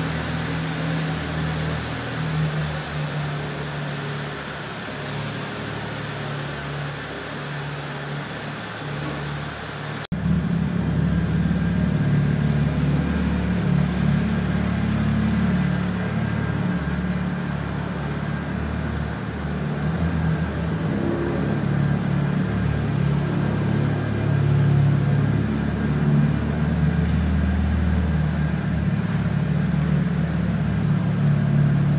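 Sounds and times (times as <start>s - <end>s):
car exhaust running: 0.0s - 31.9s.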